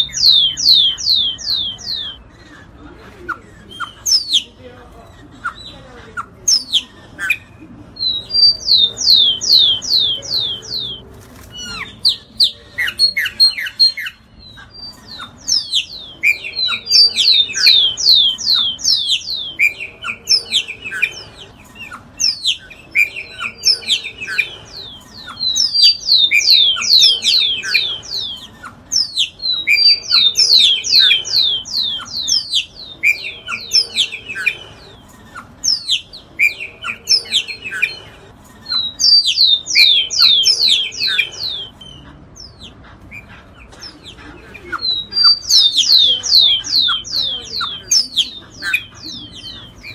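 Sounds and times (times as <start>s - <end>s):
bird singing: 0.0s - 2.7s, 3.5s - 49.9s.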